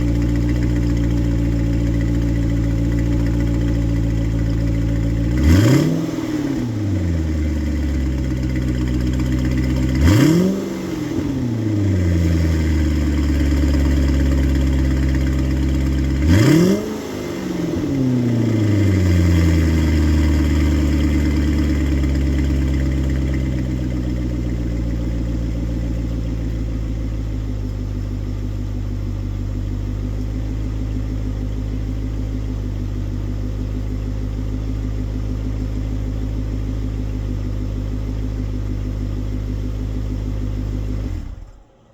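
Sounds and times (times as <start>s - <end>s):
car engine revving and idling: 0.0s - 41.9s.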